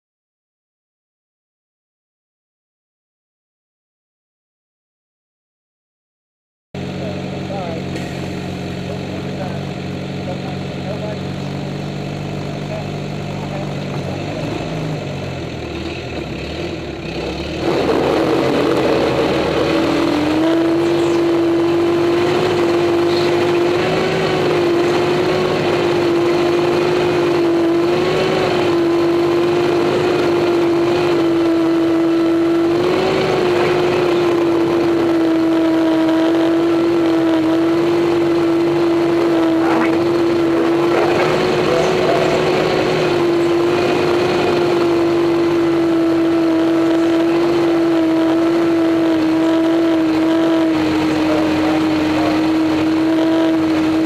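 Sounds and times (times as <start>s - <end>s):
tractor engine revving under load: 6.8s - 54.0s.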